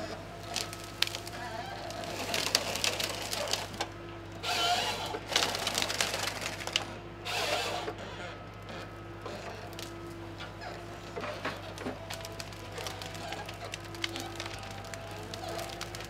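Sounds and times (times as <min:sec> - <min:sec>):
branches crackling and snapping: 0:00.0 - 0:16.0
harvester engine humming: 0:00.0 - 0:16.0.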